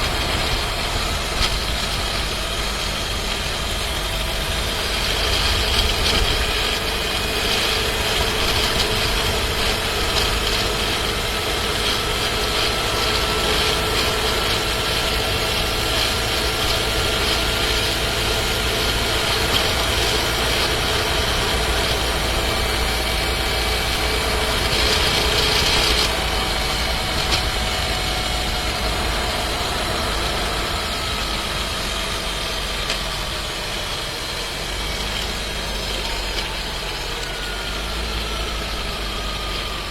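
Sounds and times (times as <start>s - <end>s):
transmission rattling: 0.0s - 39.8s
car engine from inside cabin: 0.0s - 39.9s
rush of noise: 0.0s - 39.9s.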